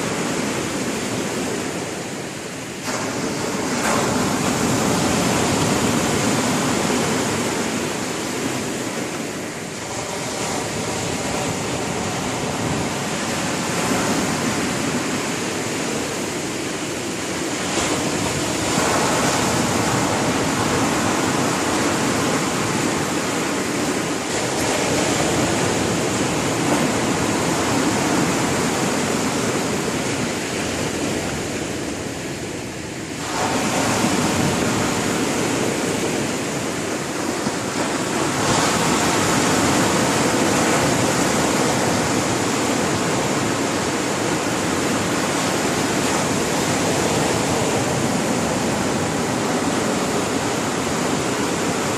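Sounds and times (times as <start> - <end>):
surf breaking on shore: 0.0 - 51.9.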